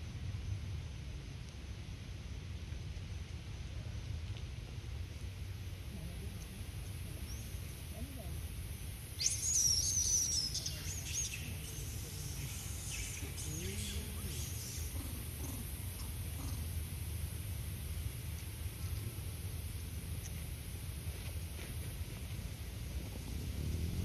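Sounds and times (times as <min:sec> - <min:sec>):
low outdoor background noise: 0:00.0 - 0:24.0.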